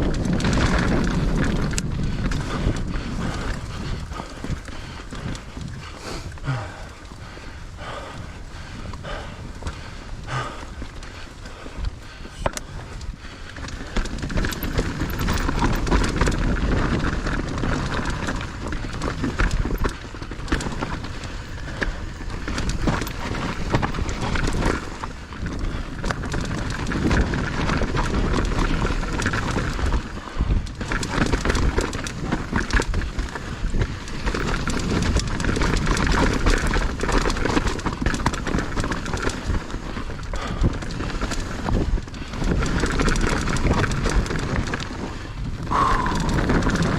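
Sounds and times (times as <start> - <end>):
tyres rolling over dirt and rocks: 0.0 - 6.4, 9.5 - 46.9
bike rattling and knocking: 0.0 - 46.9.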